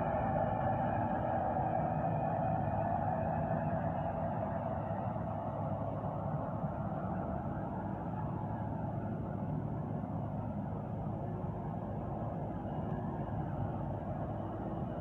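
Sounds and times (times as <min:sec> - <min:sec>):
street sweeper engine and fan humming: 0:00.0 - 0:15.0.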